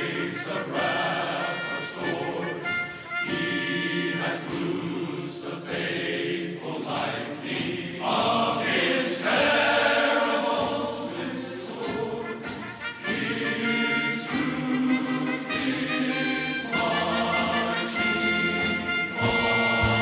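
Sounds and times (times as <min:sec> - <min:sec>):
choir singing a gospel hymn: 0:00.0 - 0:20.0.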